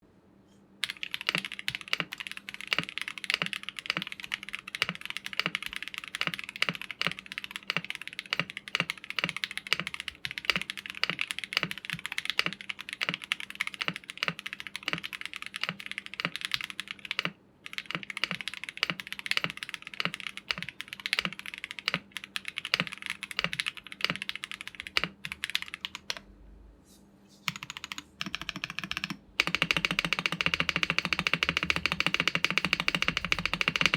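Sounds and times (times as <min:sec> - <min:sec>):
mechanical keyboard typing: 0:00.8 - 0:26.2, 0:27.5 - 0:33.9.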